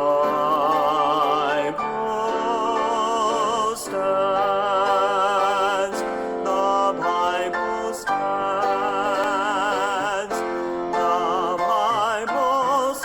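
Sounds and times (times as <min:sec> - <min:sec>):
hymn sung with vibrato: 0:00.0 - 0:13.0.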